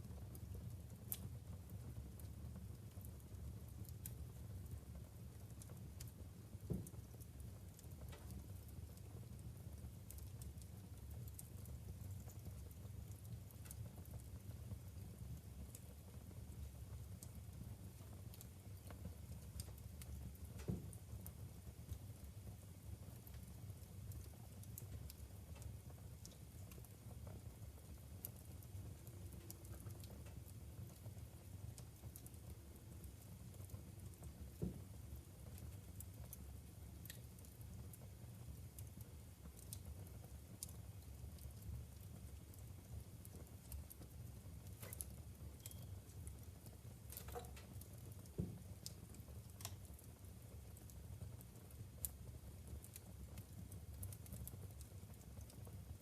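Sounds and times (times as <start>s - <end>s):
logs crackling and popping: 0.0s - 56.0s
low fire rumble: 0.0s - 56.0s.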